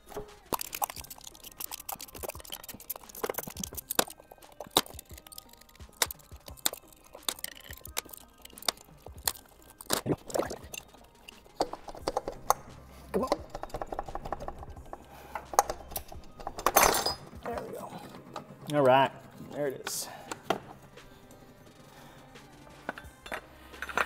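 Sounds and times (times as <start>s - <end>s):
hand tools clinking on metal: 0.0s - 14.6s, 15.4s - 20.6s, 22.8s - 24.0s.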